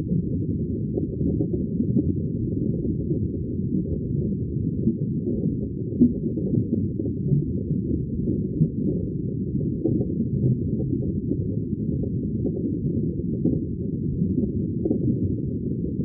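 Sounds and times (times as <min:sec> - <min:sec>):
muffled underwater bubbling rumble: 0:00.0 - 0:16.0.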